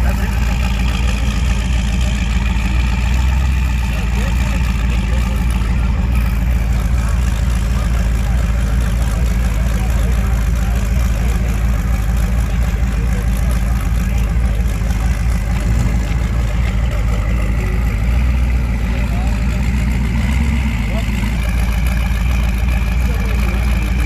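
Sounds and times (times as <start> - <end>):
engines idling: 0.0 - 24.0
faint background voices: 0.0 - 24.0.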